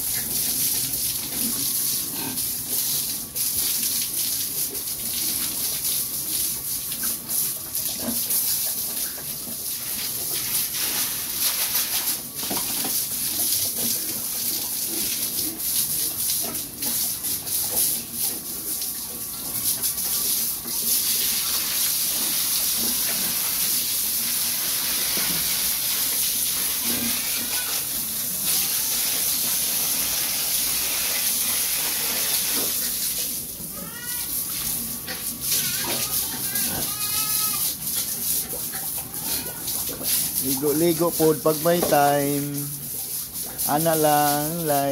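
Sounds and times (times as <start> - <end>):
hose spraying water: 0.0 - 44.9.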